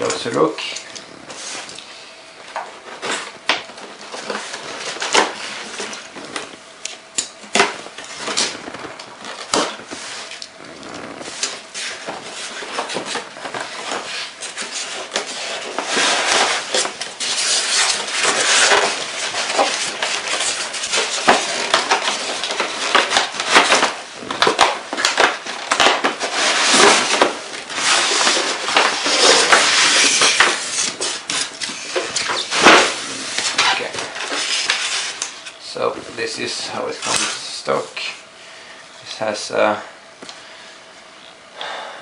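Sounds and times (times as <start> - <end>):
packaging rustling and crinkling: 0.0 - 38.1.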